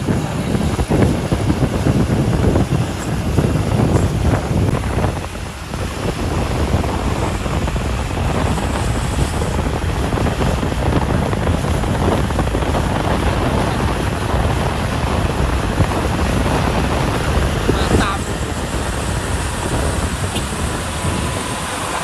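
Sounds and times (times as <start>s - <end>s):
truck engine: 0.0s - 22.0s
wind buffeting microphone: 0.0s - 22.0s.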